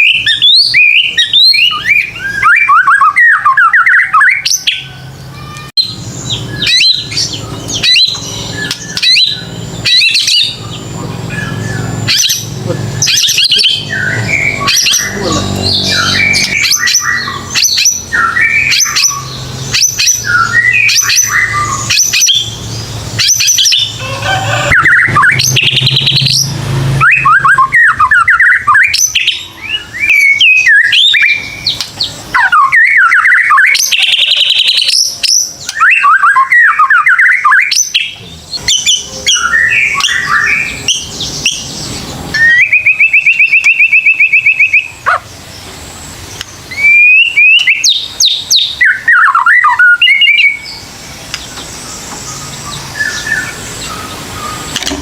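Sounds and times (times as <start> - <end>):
bird whistling song: 0.0 - 45.3, 46.2 - 55.0
bird buzzy trill: 0.0 - 55.0.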